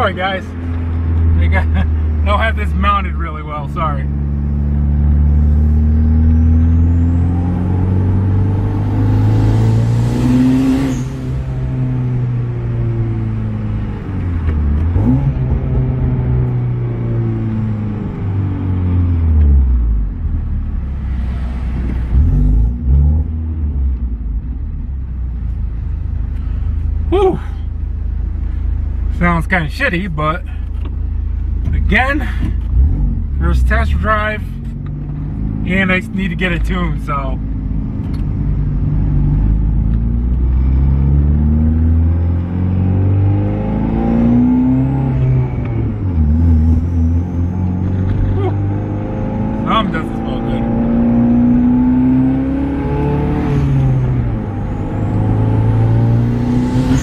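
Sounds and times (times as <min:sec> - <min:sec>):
turbocharged car engine rumbling: 0:00.0 - 0:57.0.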